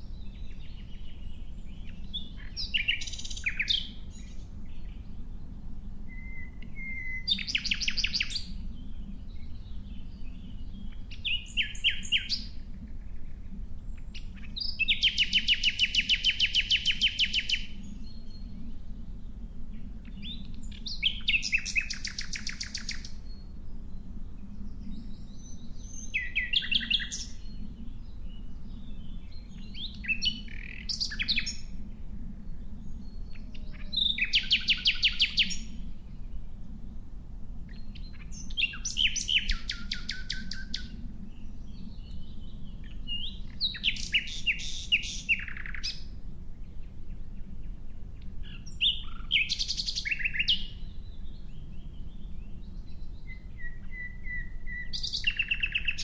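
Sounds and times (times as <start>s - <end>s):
nightingale singing trills: 0.0s - 36.6s, 37.6s - 56.0s.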